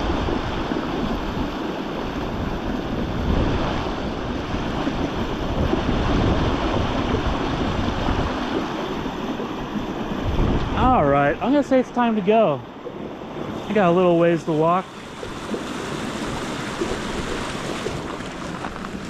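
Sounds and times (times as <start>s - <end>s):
river water rushing: 0.0s - 19.0s
wind buffeting microphone: 0.0s - 19.0s.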